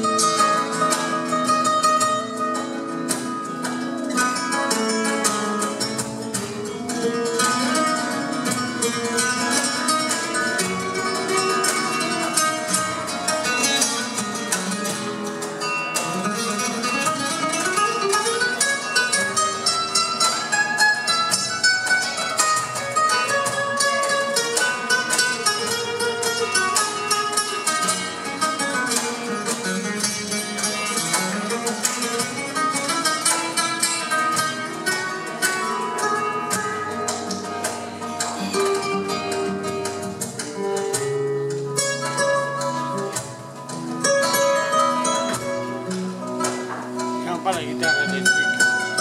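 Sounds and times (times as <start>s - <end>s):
flamenco guitars playing: 0.0s - 49.0s.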